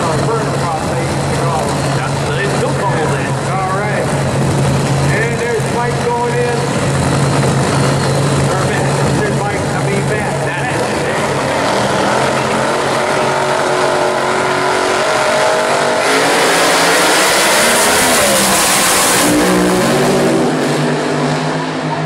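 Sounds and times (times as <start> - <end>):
drag racing engines accelerating: 0.0 - 22.0.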